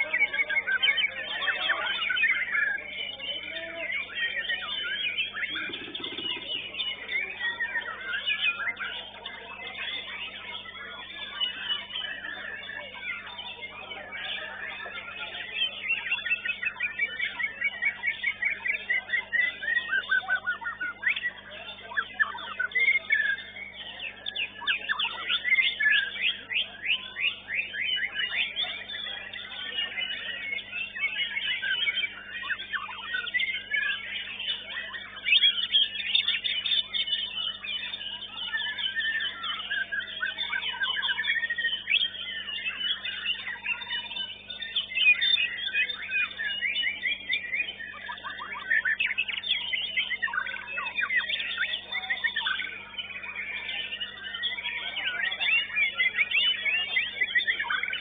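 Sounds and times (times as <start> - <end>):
songbird singing rapid whistles: 0.0 - 58.0.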